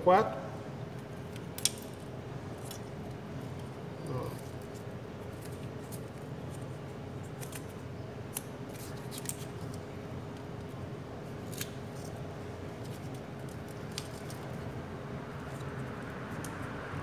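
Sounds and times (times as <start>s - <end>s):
low background hum: 0.0s - 17.0s
wire clicking and rustling: 0.9s - 10.8s, 11.4s - 16.7s.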